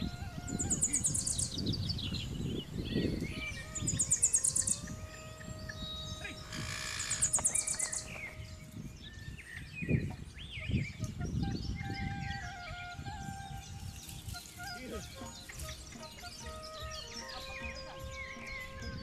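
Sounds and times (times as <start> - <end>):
birds chirping and whistling: 0.0 - 19.0.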